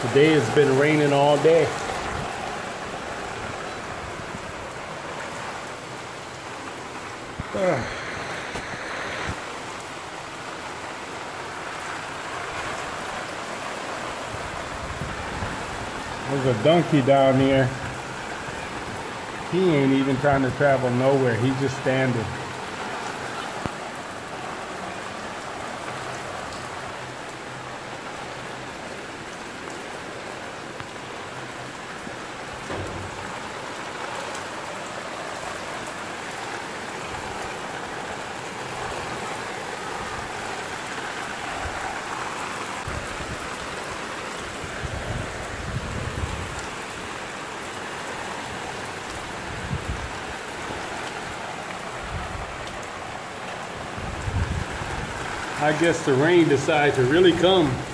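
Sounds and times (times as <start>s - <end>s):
heavy rain on roofs: 0.0s - 57.9s.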